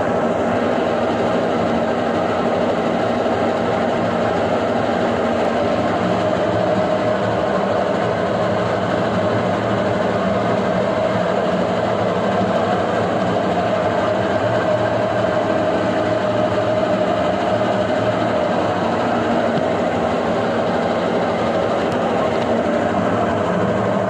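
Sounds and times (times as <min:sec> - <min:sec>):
washing machine hum: 0:00.0 - 0:24.0.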